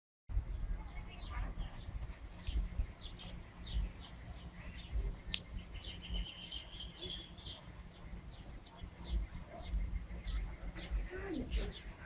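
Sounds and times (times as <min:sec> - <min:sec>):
low rumble on microphone: 0:00.3 - 0:12.0
bird warbling song: 0:00.4 - 0:12.0
small birds chirping: 0:00.4 - 0:12.0.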